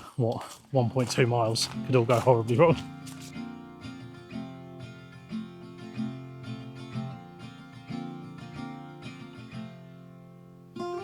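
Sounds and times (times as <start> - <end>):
acoustic guitar picked and strummed: 1.0 - 11.0.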